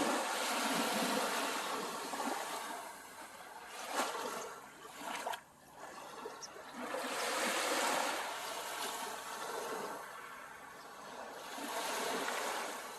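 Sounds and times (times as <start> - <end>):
sea waves breaking on beach: 0.0 - 12.9.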